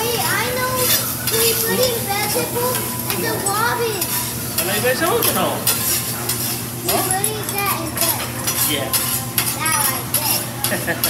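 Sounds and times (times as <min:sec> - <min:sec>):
food sizzling: 0:00.0 - 0:11.0
metal spatulas scraping on griddle: 0:00.0 - 0:11.0.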